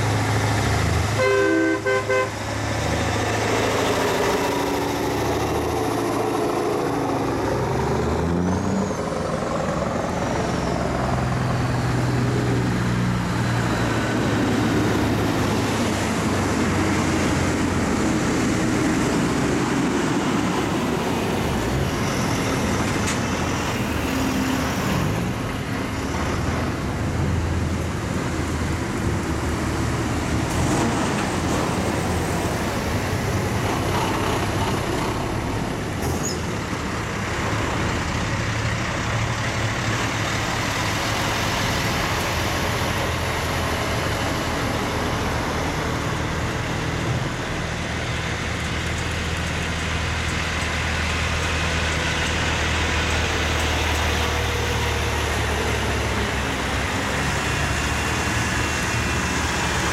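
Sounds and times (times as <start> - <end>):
heavy diesel trucks driving past: 0.0 - 59.9
tyres on road: 0.0 - 59.9.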